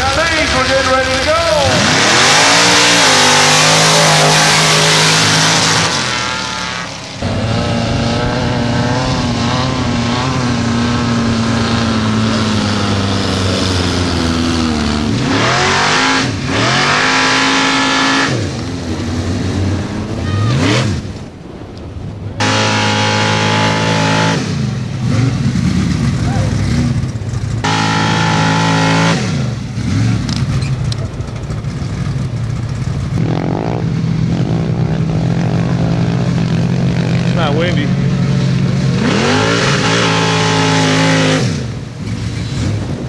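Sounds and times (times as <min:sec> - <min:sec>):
truck engine revving: 0:00.0 - 0:43.0.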